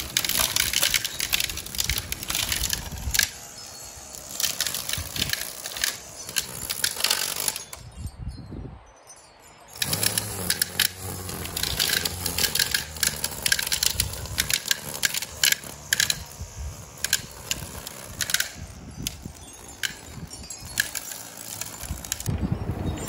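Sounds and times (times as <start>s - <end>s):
faint motor hum: 0.0s - 7.8s, 9.7s - 22.9s
trimmer line ticking on grass: 0.0s - 7.8s, 9.7s - 22.4s.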